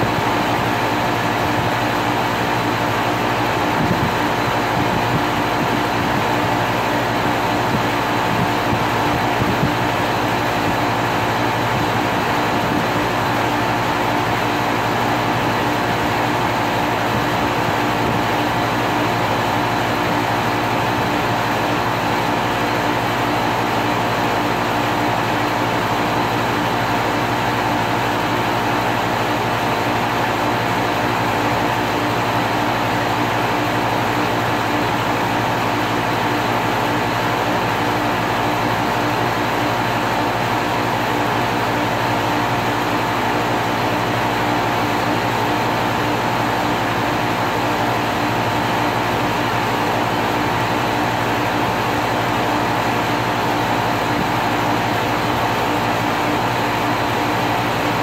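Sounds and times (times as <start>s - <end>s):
airy fan noise: 0.0s - 58.0s.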